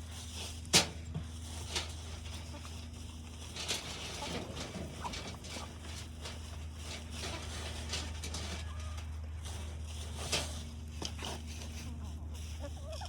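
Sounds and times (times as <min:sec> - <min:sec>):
birds pecking at grain: 0:00.0 - 0:13.0.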